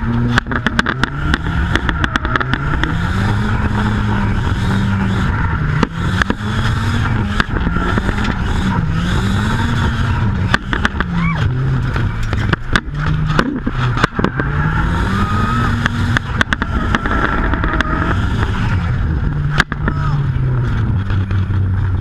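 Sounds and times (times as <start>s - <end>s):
car engine revving: 0.0s - 22.0s
sharp clicks and rattles: 0.1s - 14.6s, 15.6s - 22.0s.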